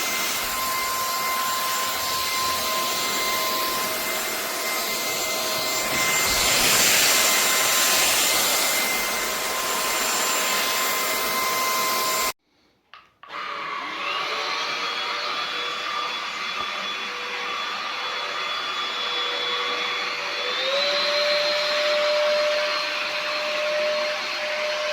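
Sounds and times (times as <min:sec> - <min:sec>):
stick vacuum motor whine: 0:00.0 - 0:12.4, 0:13.2 - 0:24.9.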